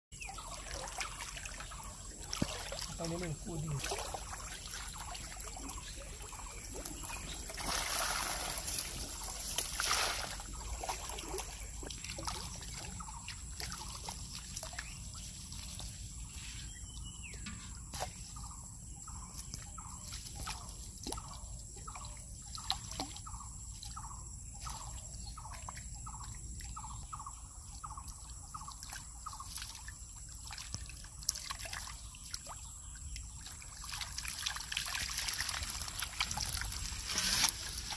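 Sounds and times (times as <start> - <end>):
water splashing and trickling: 0.2 - 37.9.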